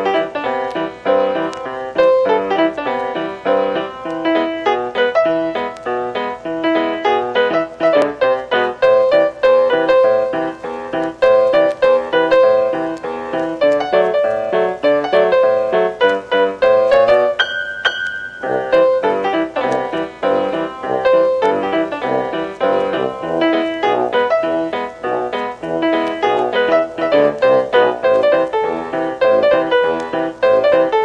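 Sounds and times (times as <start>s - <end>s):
piano music quick notes: 0.0s - 31.0s.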